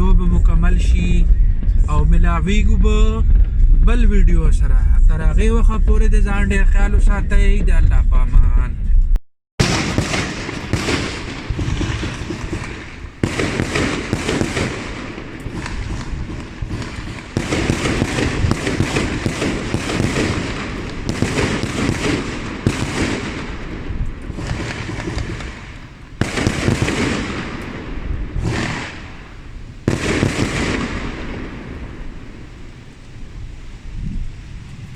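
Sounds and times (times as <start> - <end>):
fireworks bangs and crackles: 0.0 - 8.6, 9.6 - 34.9
low rumble: 0.0 - 34.9.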